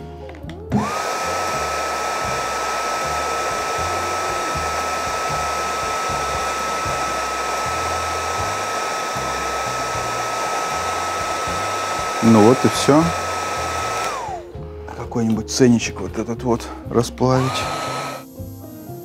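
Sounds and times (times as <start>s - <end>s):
heat gun fan whine: 0.7s - 14.6s, 17.3s - 19.0s.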